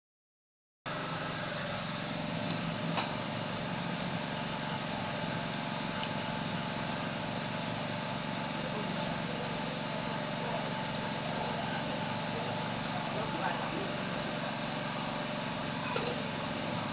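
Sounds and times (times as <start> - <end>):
steady mechanical hum: 0.9 - 16.9.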